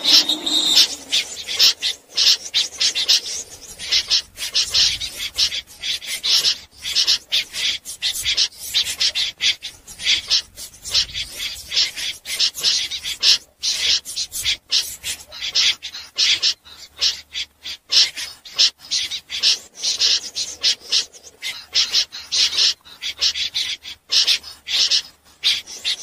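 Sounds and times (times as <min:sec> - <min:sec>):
snipe rasping calls: 0:00.0 - 0:26.0.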